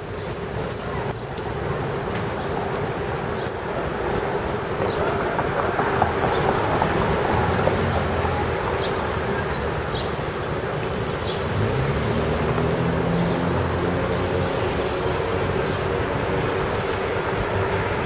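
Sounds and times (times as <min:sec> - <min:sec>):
city traffic roar: 0:00.0 - 0:18.0.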